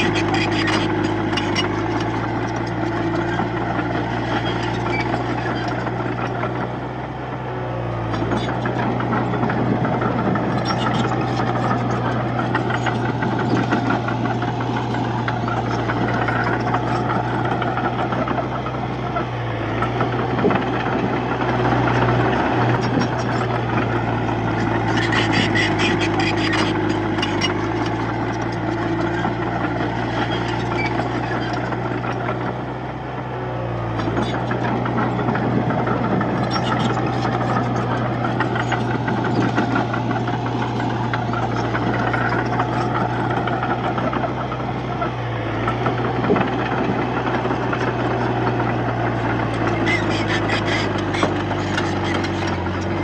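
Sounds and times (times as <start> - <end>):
bulldozer diesel engine running: 0.0 - 53.0
rapid clatter: 8.1 - 32.6, 34.0 - 53.0.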